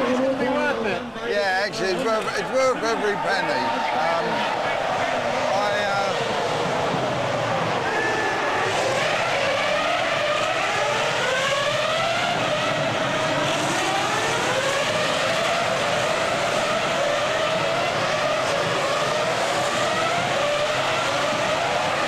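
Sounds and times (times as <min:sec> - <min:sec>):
racing car engines revving: 0:00.0 - 0:22.0.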